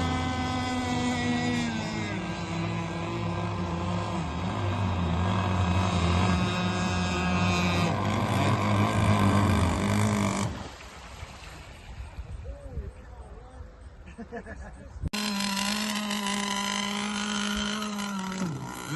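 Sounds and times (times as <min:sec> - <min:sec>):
radio-controlled boat motor drone: 0:00.0 - 0:14.0, 0:14.9 - 0:18.9.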